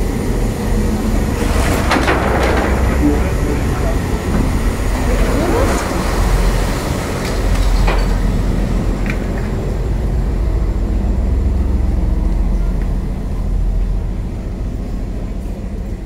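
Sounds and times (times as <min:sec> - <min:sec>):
ferry engines droning: 0:00.0 - 0:16.0.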